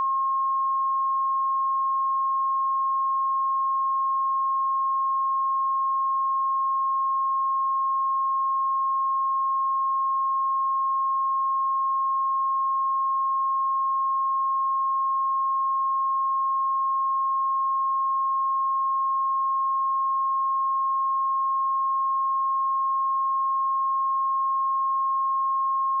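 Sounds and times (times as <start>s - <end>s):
sine-wave test tone: 0.0s - 26.0s.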